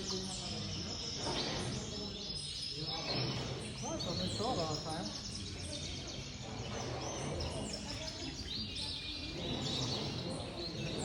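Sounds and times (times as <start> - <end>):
canaries chirping and trilling: 0.0 - 11.0.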